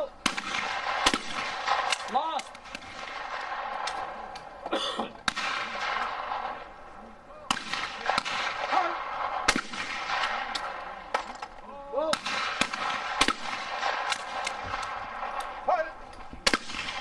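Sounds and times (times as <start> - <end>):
shotgun shots: 0.2 - 4.6, 5.2 - 6.7, 7.5 - 11.4, 12.0 - 17.0.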